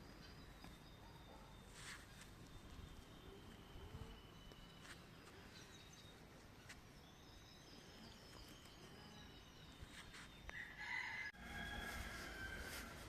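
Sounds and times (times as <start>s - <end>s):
faint birds chirping: 0.0s - 11.7s.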